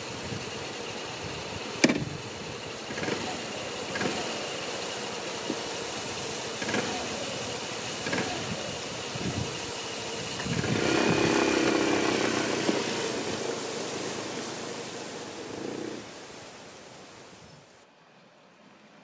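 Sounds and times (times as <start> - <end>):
scooter engine: 0.0 - 17.5.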